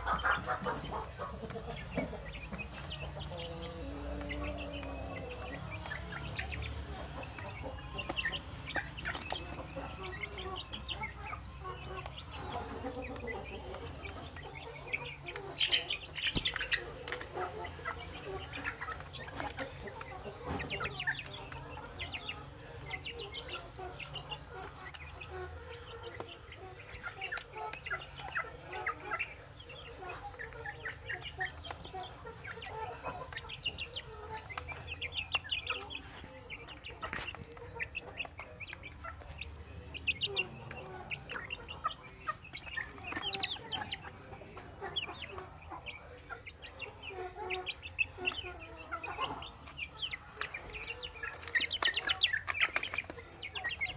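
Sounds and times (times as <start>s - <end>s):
chicks peeping and clucking: 0.0s - 53.9s.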